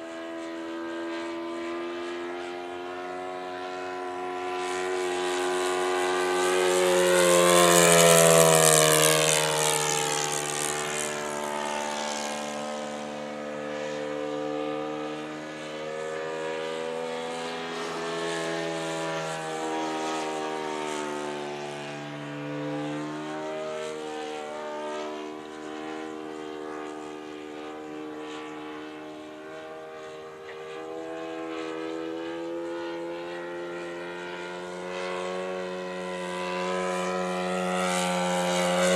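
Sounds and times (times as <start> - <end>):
model plane motor drone: 0.0 - 38.9.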